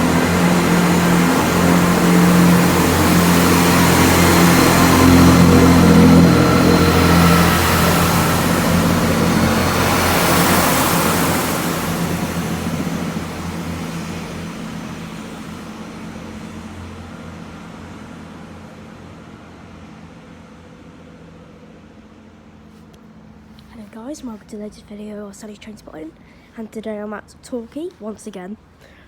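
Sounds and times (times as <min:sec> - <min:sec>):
diesel train engine running: 0:00.0 - 0:26.8.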